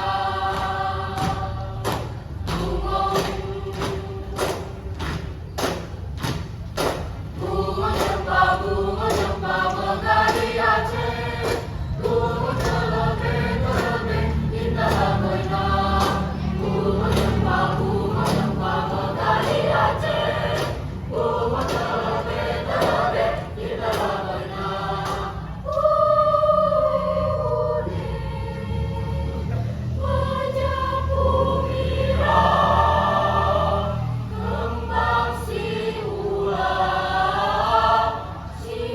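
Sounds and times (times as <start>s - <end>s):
choir singing in parts: 0.0s - 38.9s.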